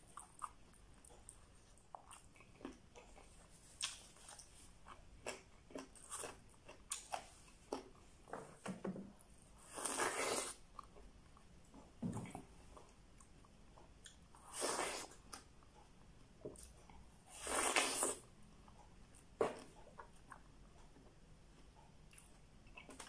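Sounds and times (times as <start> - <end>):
person chewing food: 0.0 - 8.6, 9.6 - 23.0.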